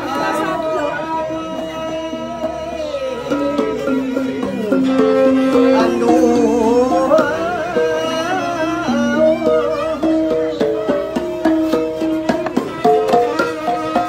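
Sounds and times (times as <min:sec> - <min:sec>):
person singing wavering melody: 0:00.0 - 0:14.0.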